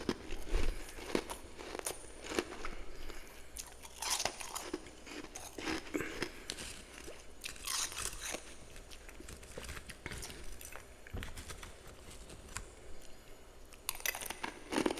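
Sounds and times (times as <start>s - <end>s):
person chewing frost crunching: 0.0s - 14.9s.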